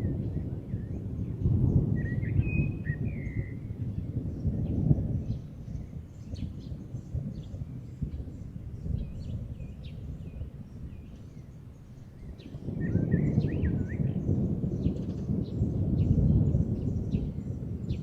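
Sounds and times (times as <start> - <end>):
distant thunder rumbling: 0.0 - 18.0.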